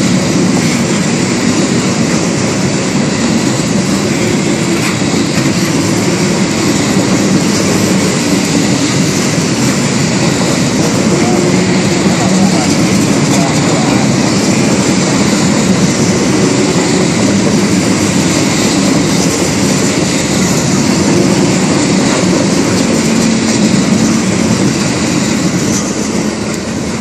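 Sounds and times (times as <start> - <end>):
steel train wheels on track: 0.0 - 27.0.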